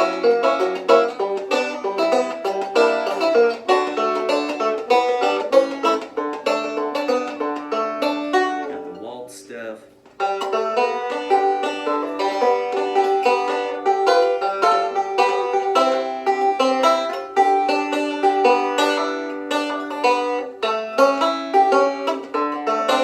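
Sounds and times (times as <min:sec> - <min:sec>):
banjo picking: 0:00.0 - 0:23.0.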